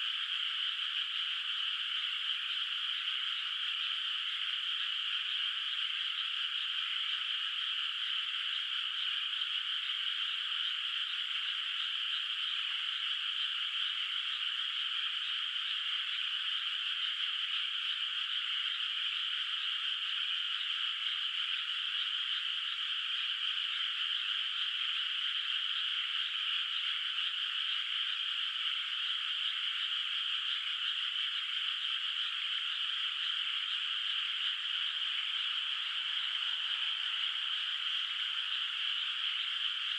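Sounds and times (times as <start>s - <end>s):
chorus of frogs trilling: 0.0s - 39.9s.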